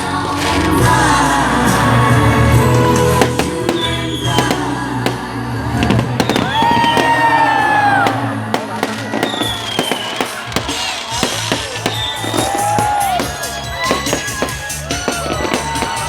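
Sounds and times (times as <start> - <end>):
fireworks bangs and crackles: 0.0 - 16.0
loud background music: 0.0 - 16.0.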